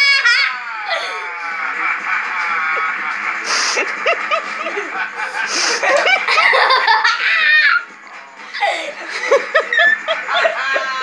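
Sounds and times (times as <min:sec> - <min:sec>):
people laughing hard: 0:00.0 - 0:11.0.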